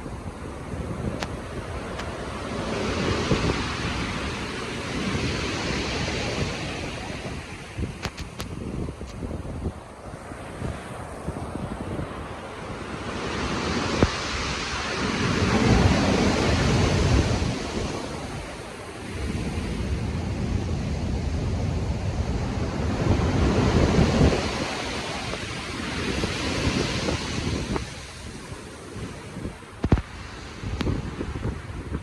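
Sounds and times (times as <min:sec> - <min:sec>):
heavy waves surging: 0:00.0 - 0:32.0
steady wind: 0:00.0 - 0:32.0
wind buffeting microphone: 0:00.0 - 0:32.0.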